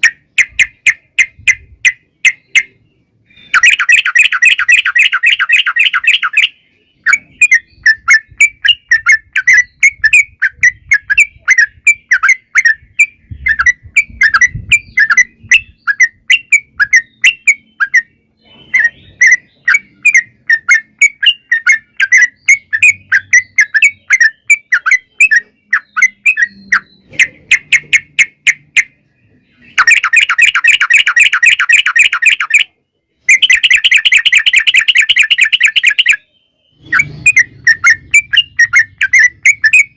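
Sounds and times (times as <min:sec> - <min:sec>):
bird singing loud chirps and trills: 0:00.0 - 0:39.9.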